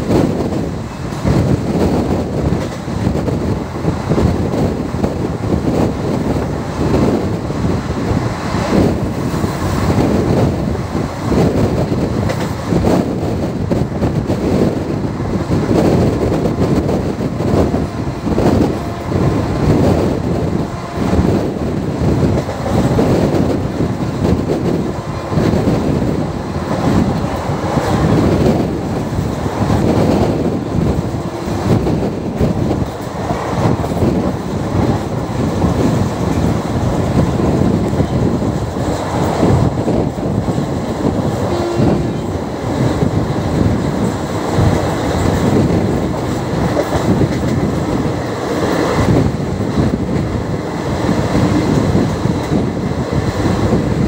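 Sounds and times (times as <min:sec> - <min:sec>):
train running gear rumble: 0:00.0 - 0:54.0.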